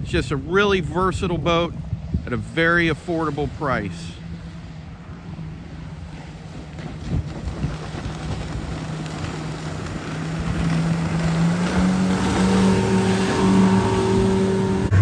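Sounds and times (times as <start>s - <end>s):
outboard motor drone: 0.0s - 15.0s
water rushing off hull: 0.0s - 15.0s.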